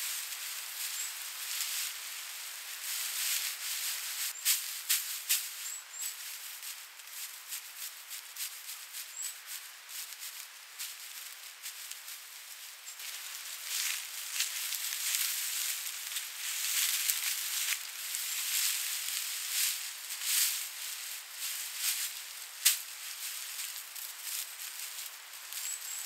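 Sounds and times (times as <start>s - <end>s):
straw thatch rustling and crackling: 0.0s - 26.0s.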